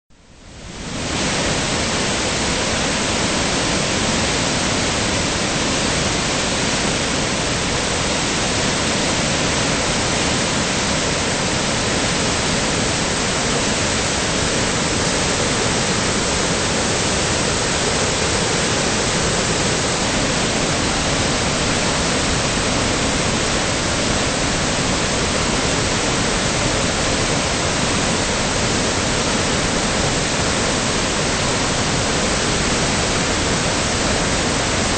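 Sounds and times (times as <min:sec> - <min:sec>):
whitewater rushing through rapids: 0:00.3 - 0:34.9.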